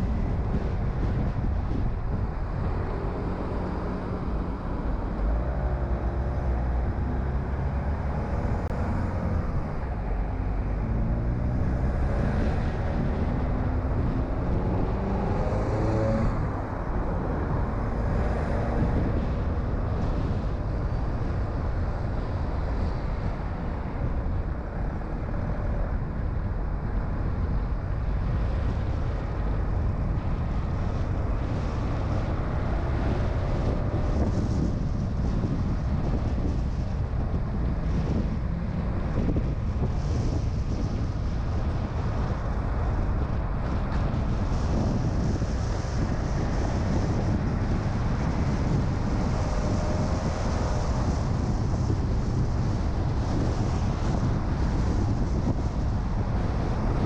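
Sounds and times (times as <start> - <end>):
car engine: 0.0 - 57.0
tyre and wind noise: 0.0 - 57.0.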